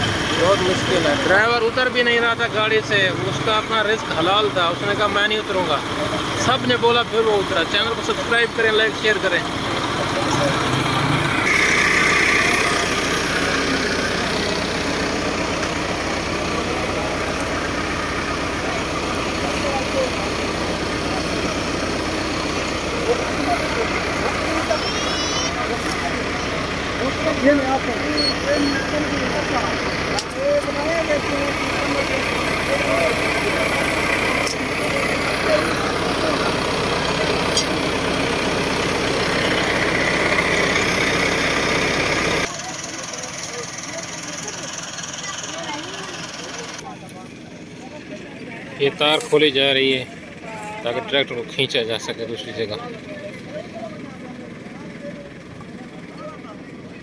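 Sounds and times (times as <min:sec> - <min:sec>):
tractor diesel engines idling: 0:00.0 - 0:57.0.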